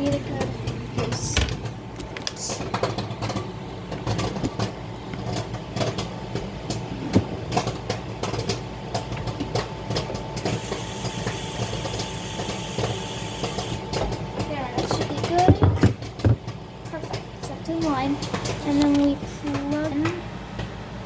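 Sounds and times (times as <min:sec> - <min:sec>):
popcorn popping: 0:00.0 - 0:20.8
microwave oven humming: 0:00.0 - 0:21.0.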